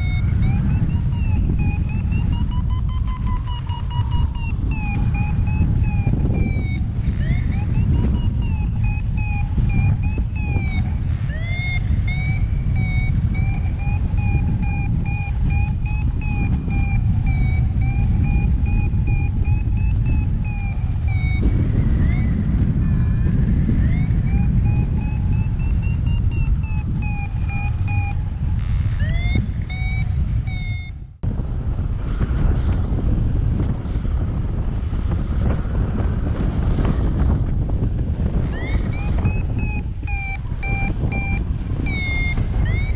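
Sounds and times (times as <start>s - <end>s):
variometer beeping: 0.0s - 31.2s, 35.4s - 42.9s
wind rush on microphone: 0.0s - 42.9s.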